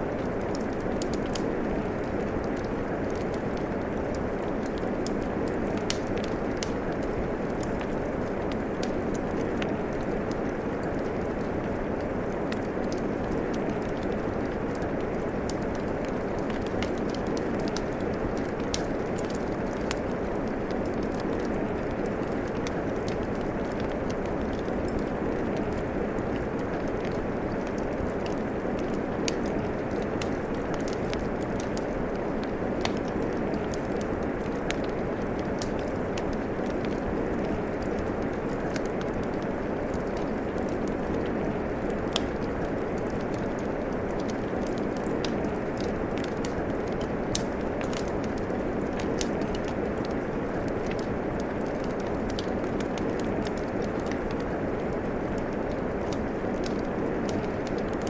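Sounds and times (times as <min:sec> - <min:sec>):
fireplace fire crackling: 0:00.0 - 0:58.0
steady rain: 0:00.0 - 0:58.0.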